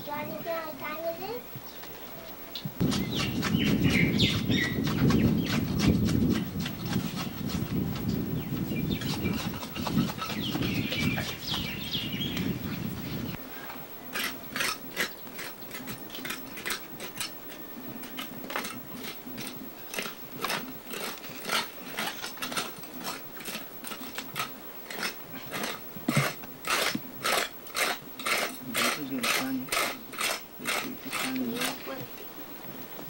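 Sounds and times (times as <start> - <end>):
rasping scraping on stone: 2.8 - 12.5, 14.1 - 32.0.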